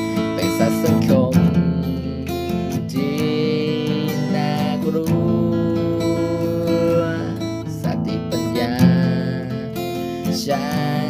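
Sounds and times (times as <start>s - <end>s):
folk song with strummed guitar: 0.0s - 11.0s.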